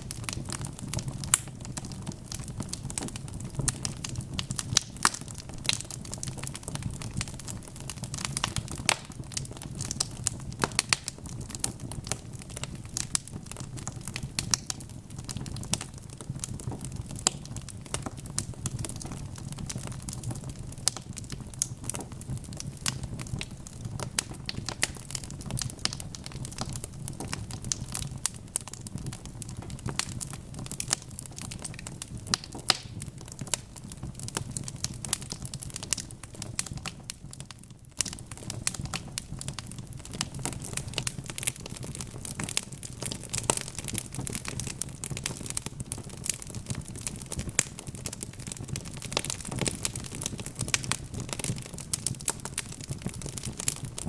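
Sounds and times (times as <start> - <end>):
logs crackling in a fireplace: 0.0 - 54.0
low rumble of fire: 0.0 - 54.0.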